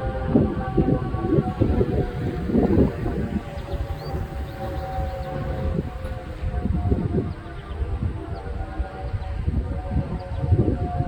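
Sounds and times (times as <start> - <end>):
faint tornado siren: 0.0 - 11.0
wind rumble on microphone: 0.0 - 11.0.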